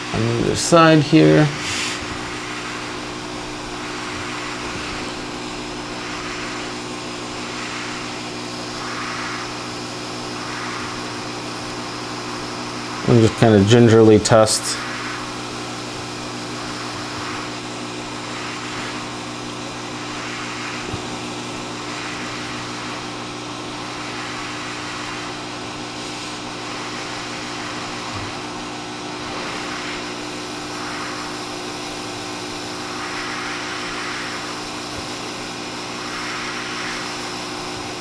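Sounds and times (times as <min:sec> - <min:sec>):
low constant hum: 0:00.0 - 0:38.0
hot air nozzle hissing: 0:00.4 - 0:38.0.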